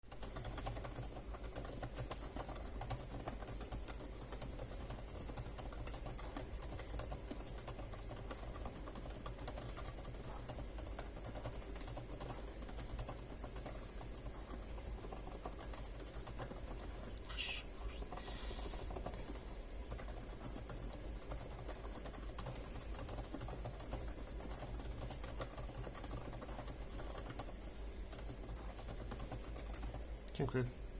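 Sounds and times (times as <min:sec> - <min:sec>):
soft muted keyboard typing: 0:00.0 - 0:30.7.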